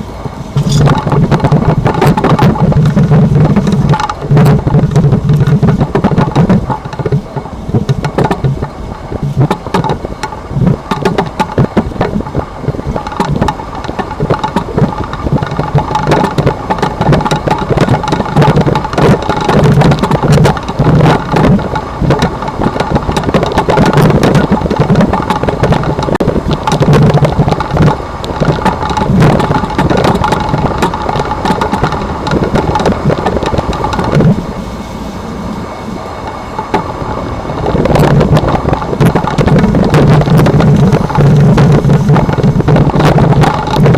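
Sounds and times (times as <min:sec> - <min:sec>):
road and vehicle noise: 0:00.0 - 0:43.9
leaf-spring clunking: 0:00.5 - 0:43.9.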